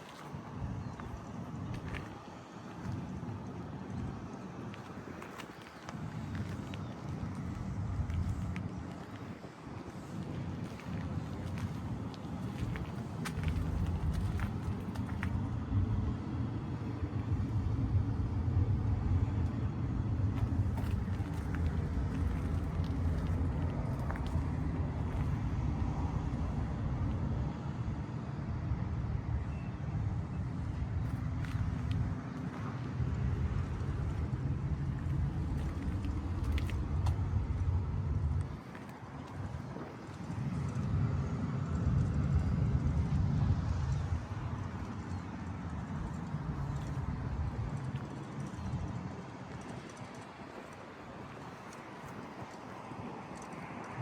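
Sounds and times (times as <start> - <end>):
diesel truck engine rumbling: 0.1 - 50.4.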